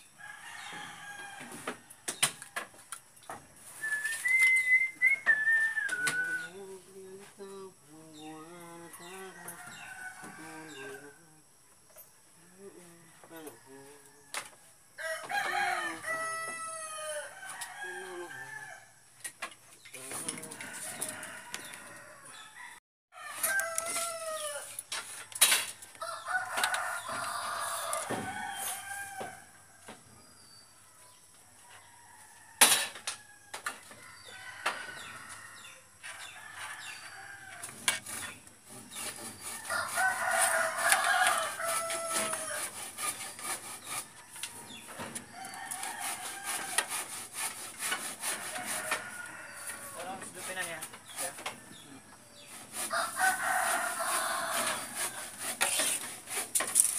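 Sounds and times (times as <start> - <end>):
roosters crowing: 0.0 - 11.9, 12.6 - 19.1, 20.0 - 30.2, 30.8 - 56.9.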